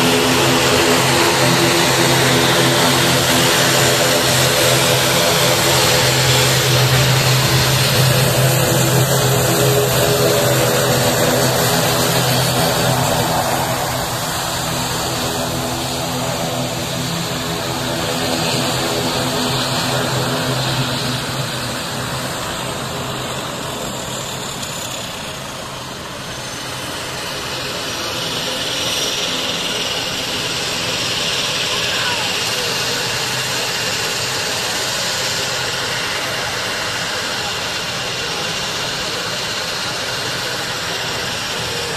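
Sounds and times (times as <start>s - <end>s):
turboprop airliner engines droning: 0.0s - 41.9s.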